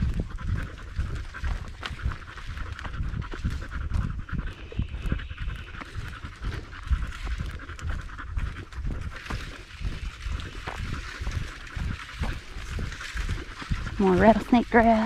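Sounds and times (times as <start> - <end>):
footsteps on dirt trail: 0.0 - 15.0
heavy panting: 0.0 - 15.0.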